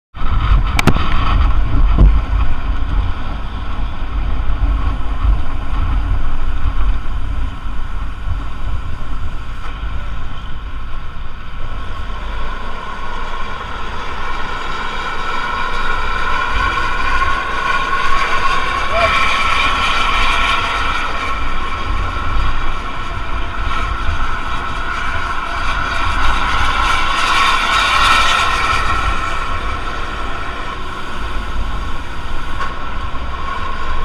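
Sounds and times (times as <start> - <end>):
high whine: 0.1 - 34.0
wind on microphone: 0.1 - 34.0
bus engine rumble: 0.2 - 34.0.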